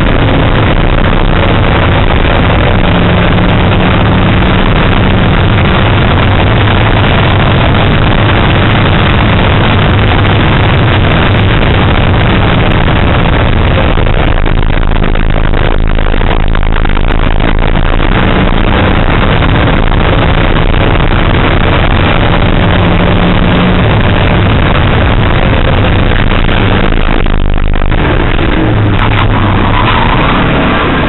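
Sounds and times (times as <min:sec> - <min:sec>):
car engine driven hard: 0:00.0 - 0:31.0
wind and road noise: 0:00.0 - 0:31.0.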